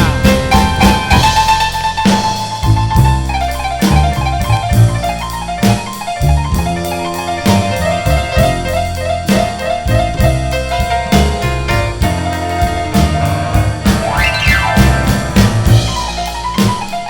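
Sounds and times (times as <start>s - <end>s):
bass line: 0.0s - 16.8s
drum kit: 0.0s - 17.0s
piano solo: 0.0s - 17.0s.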